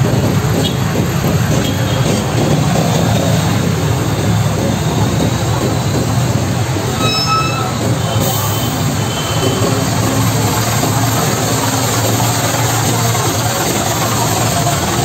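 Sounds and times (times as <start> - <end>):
idling bus engines hum: 0.0 - 15.0
street traffic noise: 0.0 - 15.0.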